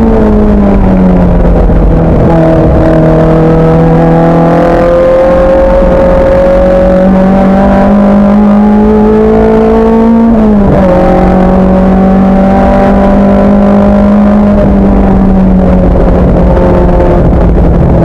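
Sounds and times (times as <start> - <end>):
racing car engine under load: 0.0 - 18.0.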